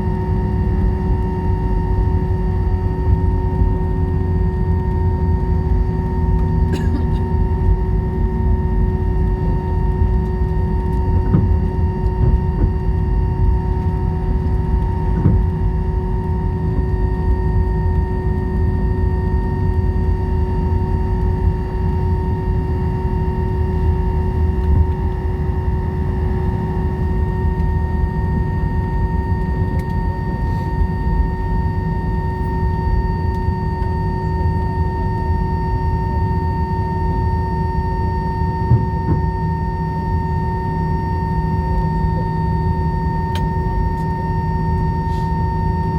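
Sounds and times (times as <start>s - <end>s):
jet engine low rumble: 0.0s - 45.9s
steady whine tones: 0.0s - 45.9s.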